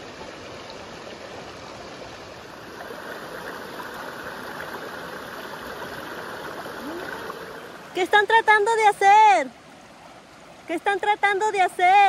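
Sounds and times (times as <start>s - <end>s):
creek water running over stones: 0.0s - 12.0s.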